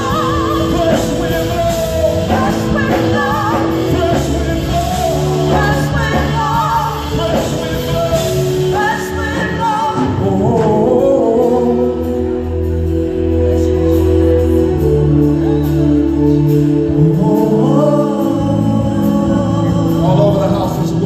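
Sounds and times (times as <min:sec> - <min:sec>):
bass line: 0:00.0 - 0:21.0
held chords: 0:00.0 - 0:21.0
vocal group singing gospel: 0:00.0 - 0:21.0.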